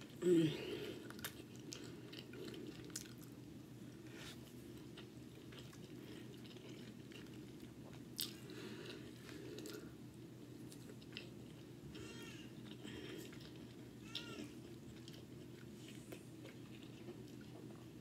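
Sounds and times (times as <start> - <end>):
low steady hum: 0.0 - 18.0
person chewing food: 0.0 - 18.0.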